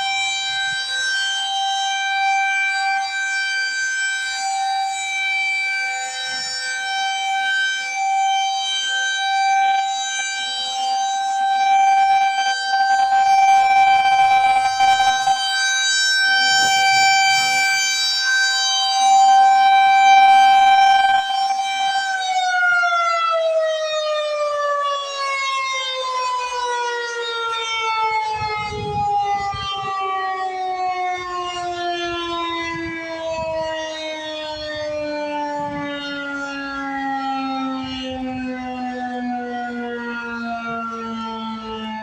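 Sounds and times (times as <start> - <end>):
electromechanical siren wailing: 0.0 - 42.0.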